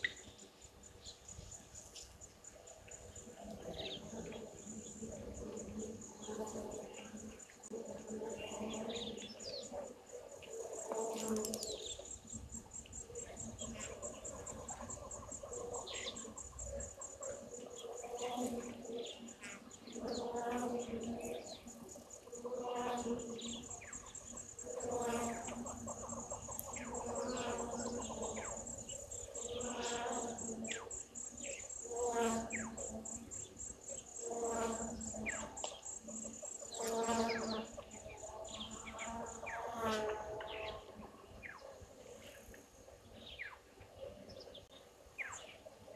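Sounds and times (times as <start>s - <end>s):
high insect trill: 0.0s - 40.8s.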